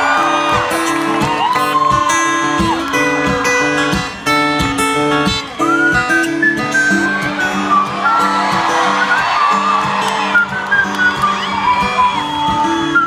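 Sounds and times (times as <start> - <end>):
acoustic guitar band music: 0.0 - 13.0.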